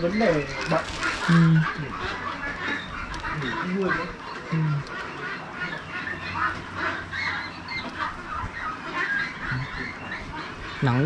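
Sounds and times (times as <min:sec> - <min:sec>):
flock of ducks calling: 0:00.0 - 0:11.0.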